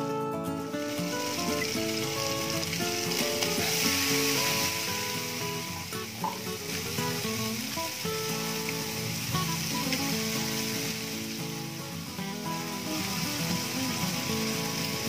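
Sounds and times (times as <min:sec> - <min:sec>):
background music: 0:00.0 - 0:15.0
food sizzling in a frying pan: 0:00.8 - 0:15.0.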